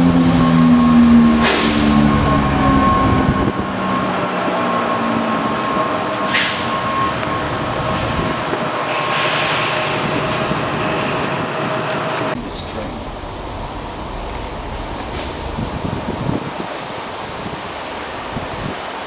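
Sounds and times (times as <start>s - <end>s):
train whining and rumbling: 0.0s - 19.0s.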